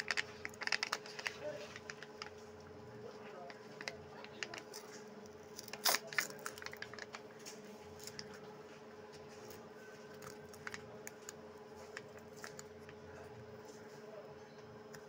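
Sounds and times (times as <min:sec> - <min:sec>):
plastic film crinkling: 0:00.0 - 0:02.6, 0:03.3 - 0:08.6, 0:09.2 - 0:13.8
faint steady hum: 0:00.0 - 0:15.0.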